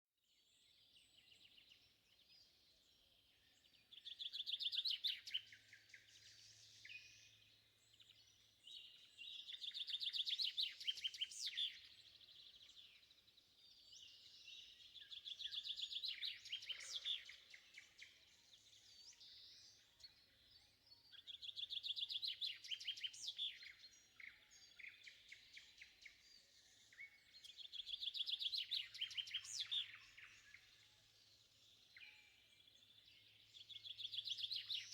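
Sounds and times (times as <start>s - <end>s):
songbirds singing: 0.3s - 34.9s.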